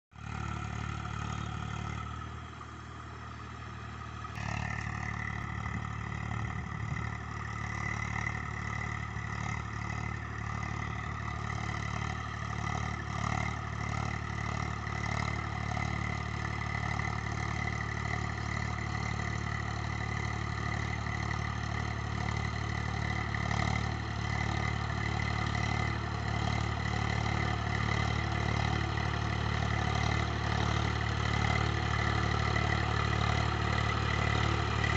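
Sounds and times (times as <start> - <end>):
tractor engine under load: 0.1 - 34.9.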